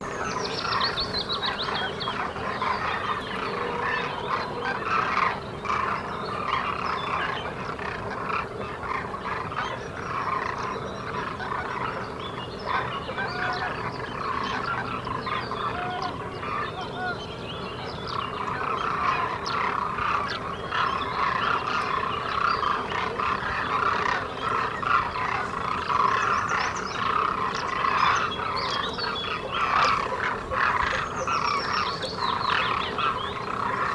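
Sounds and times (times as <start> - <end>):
flock of cranes calling: 0.0 - 33.9.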